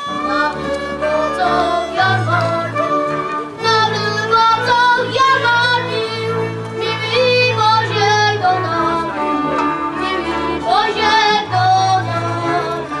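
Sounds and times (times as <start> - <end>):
children singing in unison: 0.0 - 13.0
folk string band: 0.0 - 13.0.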